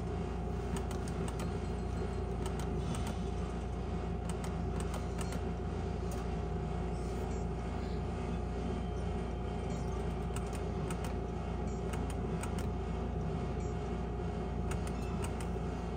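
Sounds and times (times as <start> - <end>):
steady hum with held tone: 0.0 - 15.9.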